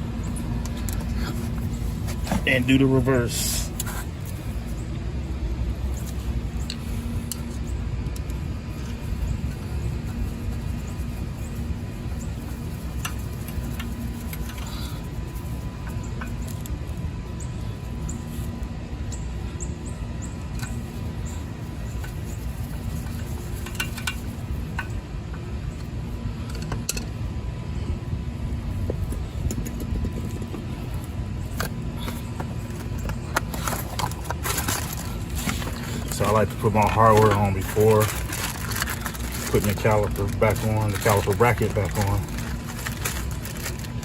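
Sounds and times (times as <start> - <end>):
low background rumble: 0.0 - 44.0.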